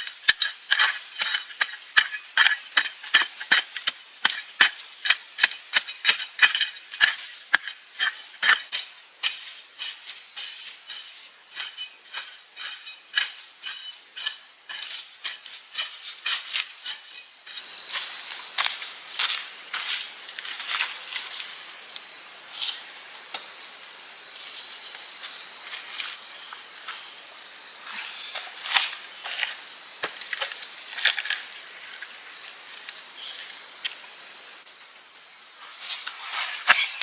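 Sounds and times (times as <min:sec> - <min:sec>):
high insect trill: 0:00.0 - 0:37.0.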